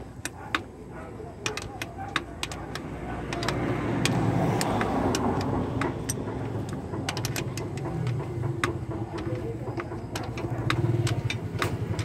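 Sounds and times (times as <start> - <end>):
ratchet wrench clicking: 1.4 - 12.0
steady low rumble: 2.2 - 12.0.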